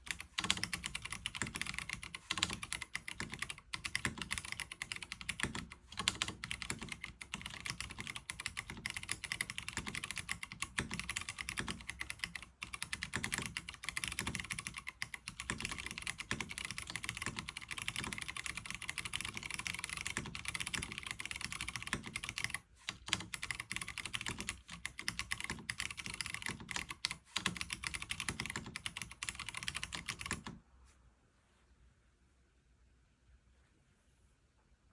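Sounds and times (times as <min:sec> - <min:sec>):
fast typing on mechanical keyboard: 0:00.0 - 0:30.6.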